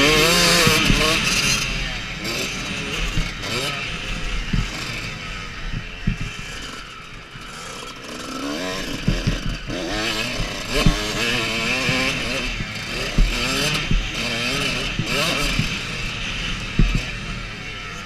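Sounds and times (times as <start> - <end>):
low thumps of bike on track: 0.0 - 7.5, 8.8 - 17.5
motocross bike engine revving: 0.0 - 18.0.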